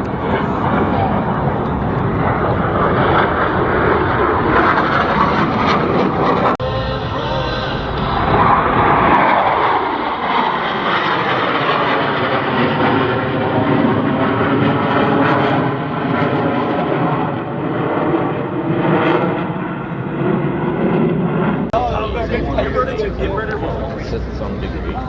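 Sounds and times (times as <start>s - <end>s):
jets passing by: 0.1s - 25.0s.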